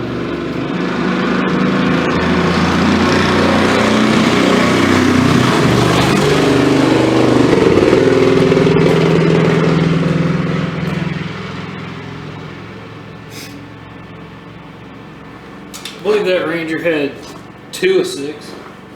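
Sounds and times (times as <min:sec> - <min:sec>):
engine revving roughly: 0:00.0 - 0:18.9.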